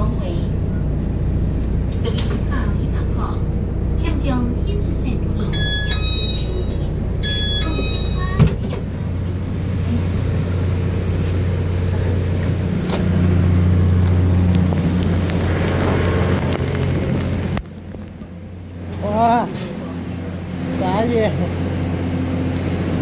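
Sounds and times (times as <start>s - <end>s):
low machinery hum: 0.0s - 23.0s
train moving past: 0.0s - 23.0s.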